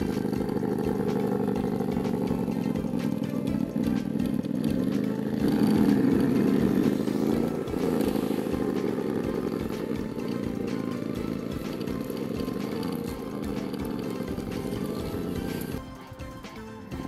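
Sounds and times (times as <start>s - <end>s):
tires clattering on dirt: 0.0s - 15.8s
toy car electric motor buzzing: 0.0s - 16.2s.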